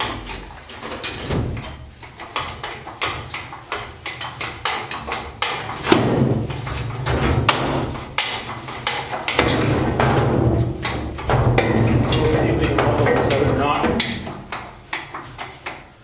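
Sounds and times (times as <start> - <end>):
metal knocks: 0.0 - 15.9
chain clanks: 0.0 - 16.0.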